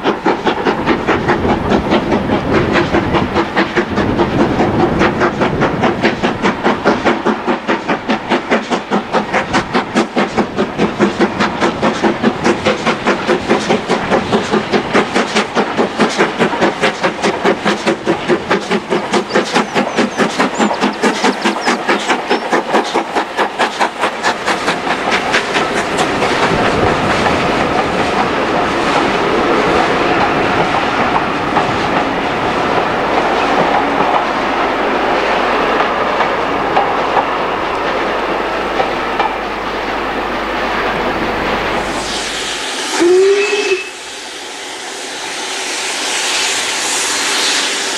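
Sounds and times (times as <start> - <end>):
coaches rolling on rails: 0.0 - 42.2
steam locomotive chuffing: 0.0 - 47.9.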